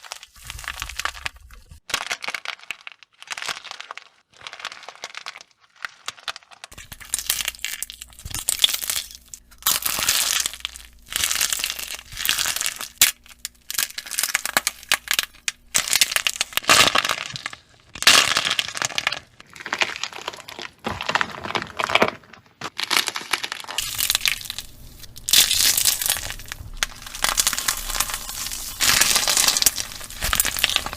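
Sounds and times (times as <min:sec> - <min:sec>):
crunchy slime shell cracking: 0:00.0 - 0:30.9.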